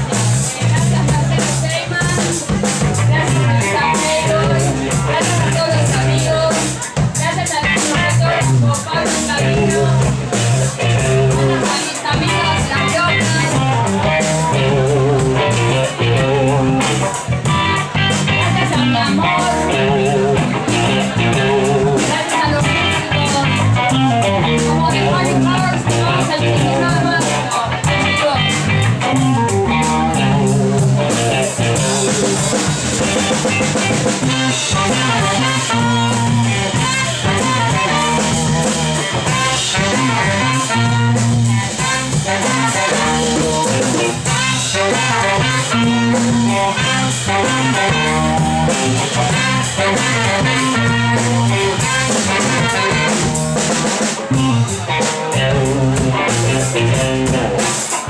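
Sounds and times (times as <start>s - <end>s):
drums: 0.0s - 58.0s
guitar: 0.0s - 58.0s.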